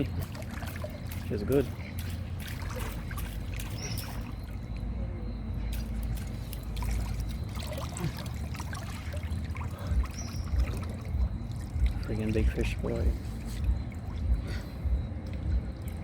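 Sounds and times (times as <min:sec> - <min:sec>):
steady low rumble: 0:00.0 - 0:16.0
water splashing and trickling: 0:00.0 - 0:16.0.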